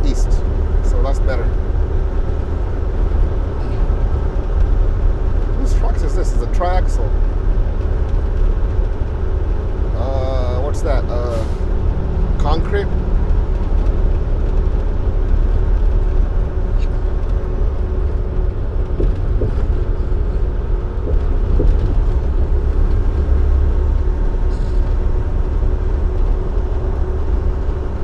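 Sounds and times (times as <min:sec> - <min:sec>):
road noise: 0:00.0 - 0:28.0
truck diesel engine rumble: 0:00.0 - 0:28.0.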